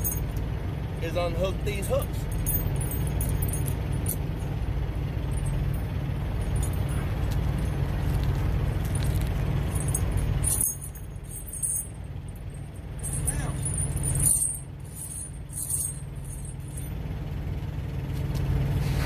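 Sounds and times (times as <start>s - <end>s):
tire chains clinking: 0.0s - 18.5s
low engine hum: 0.0s - 19.0s.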